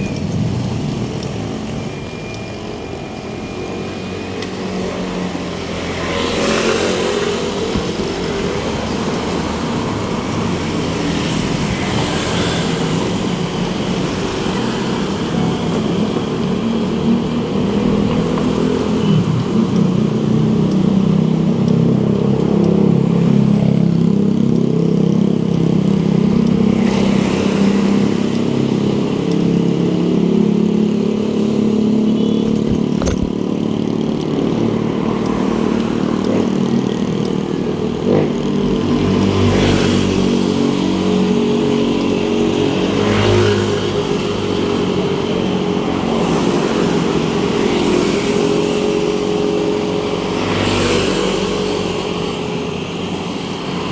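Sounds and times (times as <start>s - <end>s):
road traffic din: 0.0s - 53.9s
vehicles passing: 0.0s - 53.9s.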